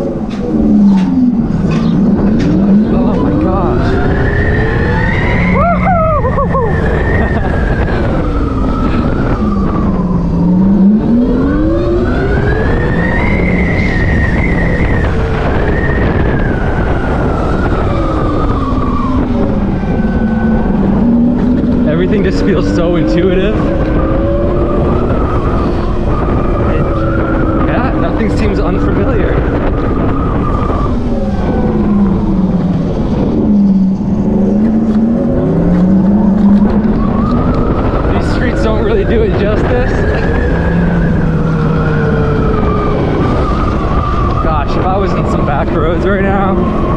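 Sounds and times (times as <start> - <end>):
electric motorcycle drive whine: 0.0 - 46.9
wind rumble on microphone: 0.0 - 46.9.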